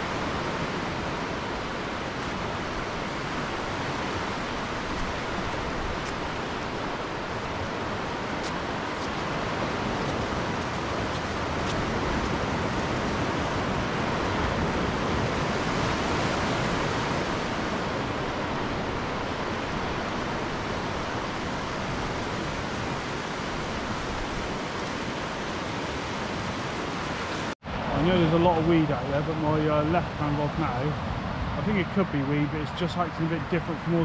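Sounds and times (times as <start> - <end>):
distant surf: 0.0 - 34.0
wind: 0.0 - 34.0.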